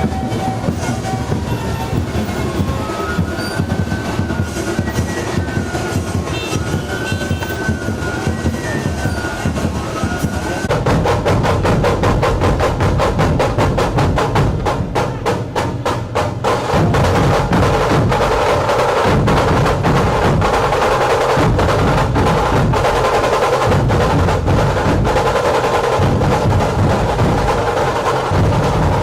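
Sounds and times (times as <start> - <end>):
fast drum music: 0.0 - 29.0.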